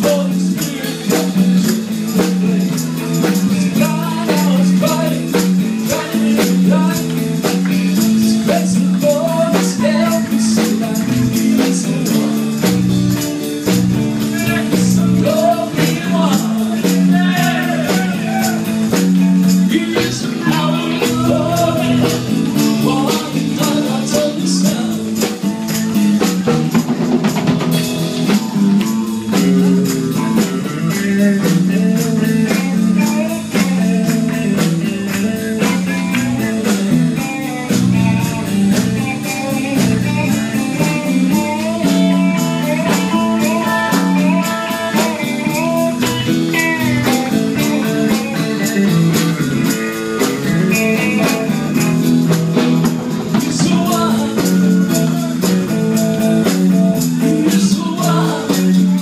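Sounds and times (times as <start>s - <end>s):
person singing: 0.0s - 27.0s, 27.6s - 52.1s, 53.2s - 59.0s
bass guitar: 0.0s - 59.0s
drum kit beat: 0.0s - 59.0s
electric guitars: 0.0s - 59.0s.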